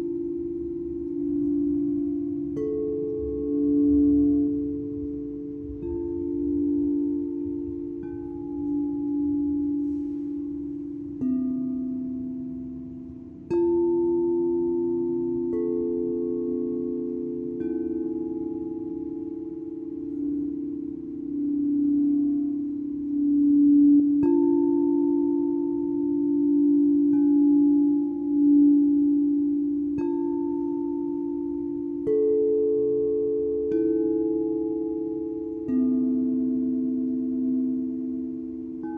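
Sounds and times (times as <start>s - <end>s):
singing bowls ringing: 0.0s - 38.9s.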